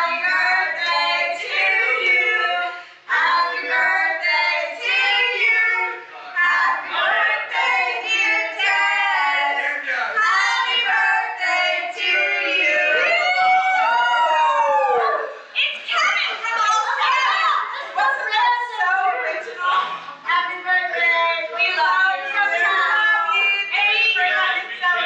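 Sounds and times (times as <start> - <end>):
women singing together: 0.0 - 25.0.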